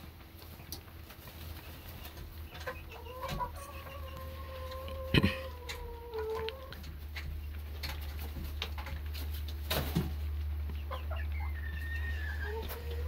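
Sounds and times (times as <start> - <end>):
steady low hum: 0.0 - 13.0
young chickens clucking: 0.0 - 13.0.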